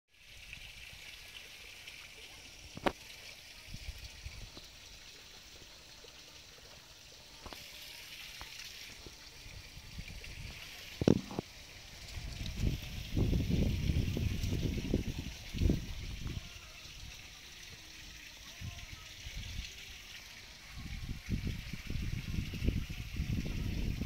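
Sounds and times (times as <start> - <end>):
faint outdoor hiss: 0.1 - 24.0.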